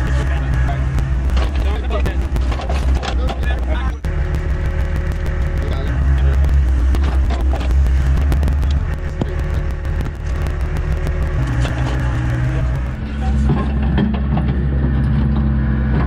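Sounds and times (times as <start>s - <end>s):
heavy machine engine humming: 0.0s - 16.0s
knocks and clicks: 0.0s - 16.0s.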